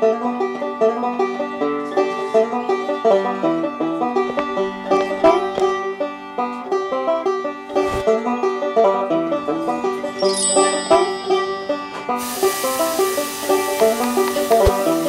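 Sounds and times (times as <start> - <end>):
plucked string music: 0.0 - 15.0.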